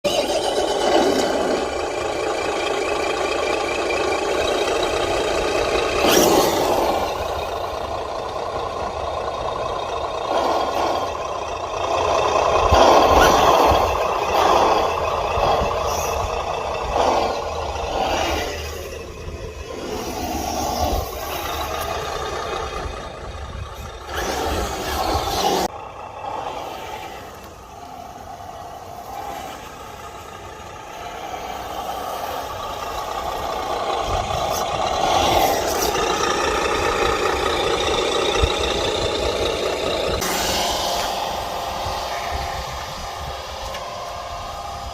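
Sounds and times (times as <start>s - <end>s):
simulated diesel engine from speaker: 0.0s - 44.9s.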